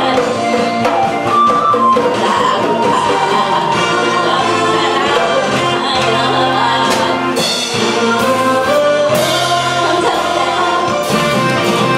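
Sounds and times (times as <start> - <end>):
woman singing into microphone: 0.0 - 11.0
amplified instrumental accompaniment: 0.0 - 11.9
drum kit: 0.0 - 11.9.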